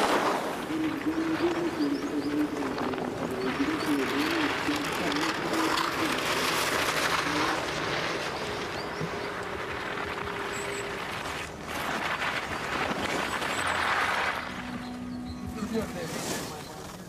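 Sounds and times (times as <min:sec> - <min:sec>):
skis scraping over rough snow: 0:00.0 - 0:17.0.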